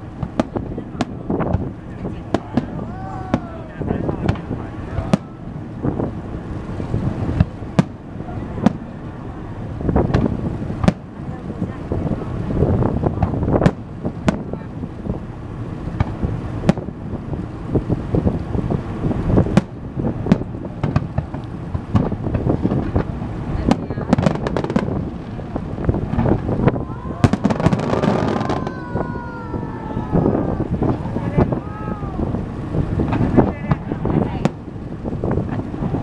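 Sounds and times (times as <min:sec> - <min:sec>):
fireworks bangs and crackles: 0:00.0 - 0:15.3, 0:15.9 - 0:36.0
wind on microphone: 0:00.0 - 0:36.0.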